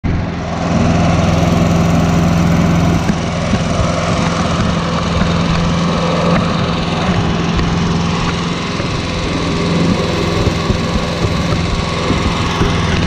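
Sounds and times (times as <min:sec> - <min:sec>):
stump grinder engine running: 0:00.0 - 0:13.0.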